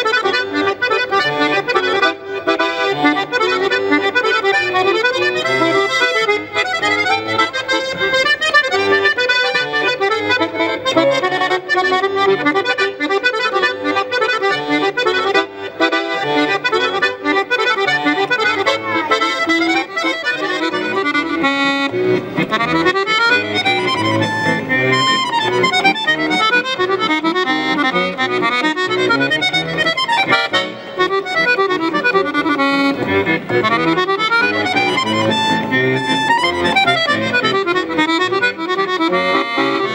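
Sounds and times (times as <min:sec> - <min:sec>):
chromatic button accordion: 0:00.0 - 0:39.9.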